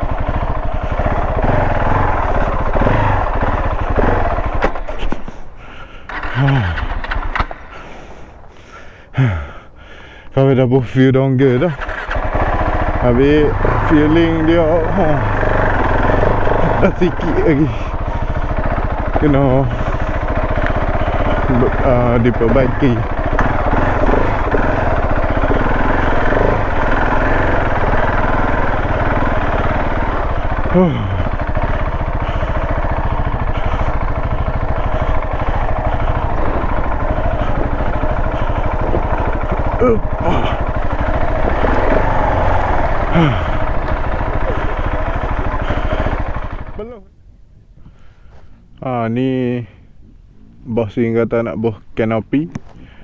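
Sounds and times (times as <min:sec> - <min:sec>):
motorcycle engine revving: 0:00.0 - 0:10.3, 0:11.4 - 0:47.0.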